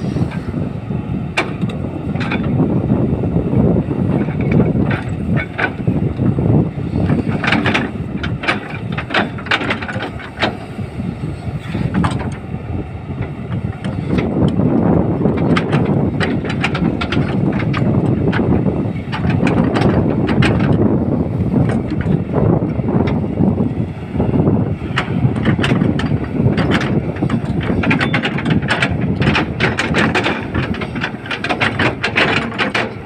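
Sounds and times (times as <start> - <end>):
excavator diesel engine under load: 0.0 - 33.0
metal clanks and rattles: 1.4 - 2.7, 4.1 - 10.8, 11.6 - 12.4, 13.2 - 23.3, 24.5 - 33.0.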